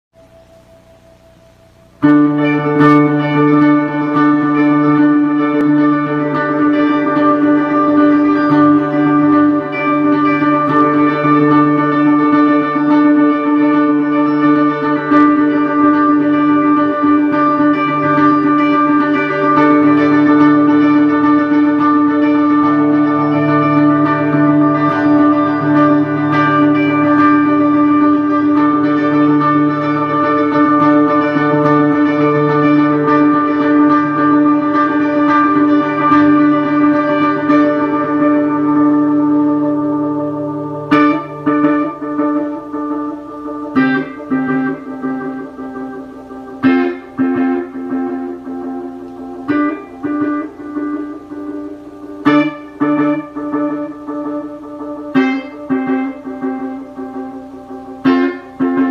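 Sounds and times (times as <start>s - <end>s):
electric guitar with delay: 0.1s - 58.9s.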